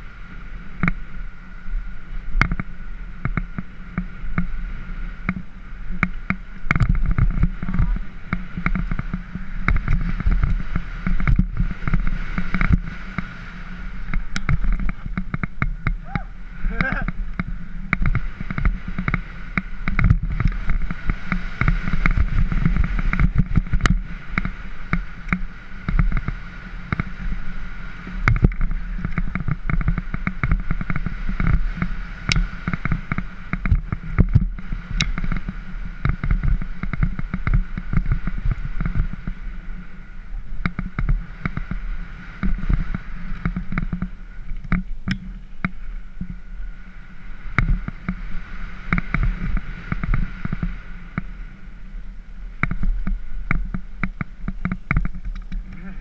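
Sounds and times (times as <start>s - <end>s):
bike and camera rattling: 0.0s - 56.0s
wind rumbling on microphone: 0.0s - 56.0s.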